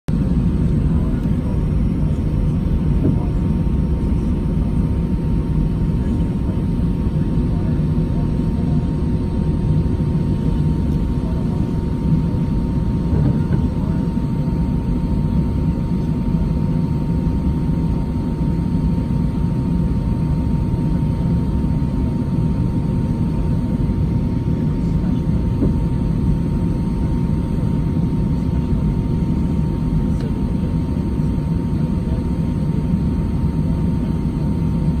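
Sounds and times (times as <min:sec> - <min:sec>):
jet engine rumble in cabin: 0:00.1 - 0:35.0
thin steady whine: 0:00.1 - 0:35.0.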